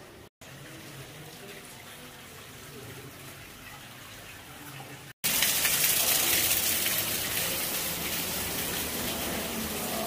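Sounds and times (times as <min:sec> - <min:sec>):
running water rushing: 0:00.4 - 0:10.0.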